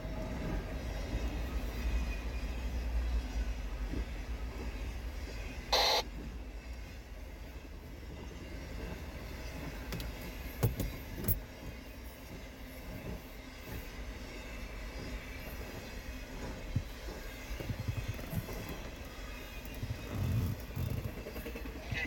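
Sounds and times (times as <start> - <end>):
freight train wheels on rail: 0.0 - 22.0.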